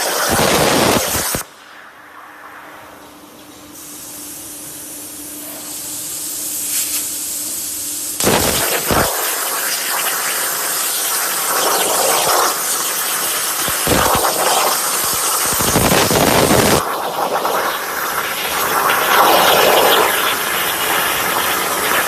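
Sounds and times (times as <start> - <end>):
hiss: 0.0 - 3.0, 3.7 - 22.0
plasma torch crackling hiss: 0.0 - 22.0
steady hum: 0.0 - 22.0.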